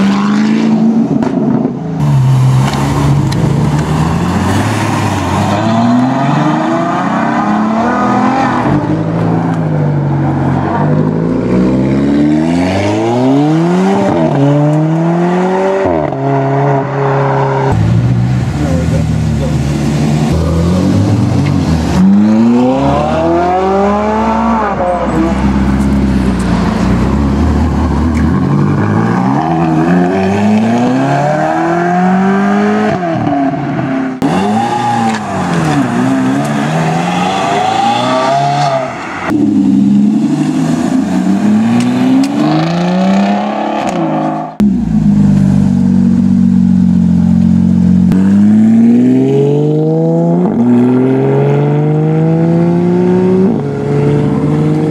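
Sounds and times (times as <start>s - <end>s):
supercar engines accelerating: 0.0s - 54.9s.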